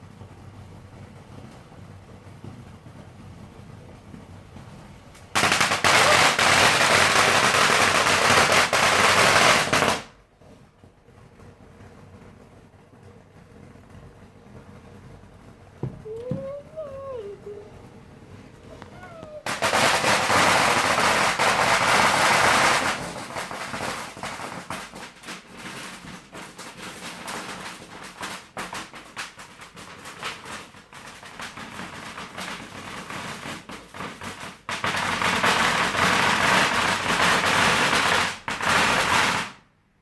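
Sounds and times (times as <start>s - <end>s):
fireworks pops and bangs: 0.0s - 17.6s, 18.3s - 39.7s.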